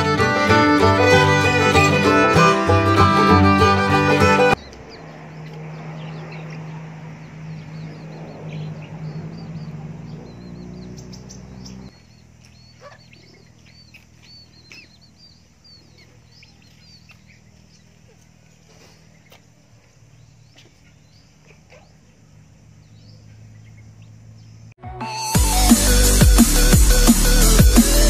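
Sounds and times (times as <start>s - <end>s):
chicks peeping: 0.0s - 24.6s.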